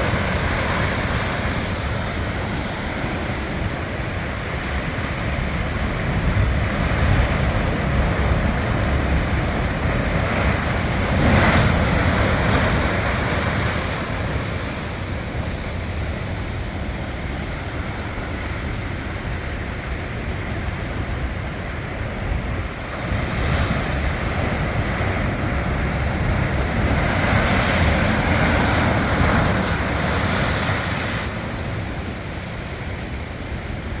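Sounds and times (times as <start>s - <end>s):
ocean surf breaking: 0.0s - 34.0s
wind on microphone: 0.0s - 34.0s.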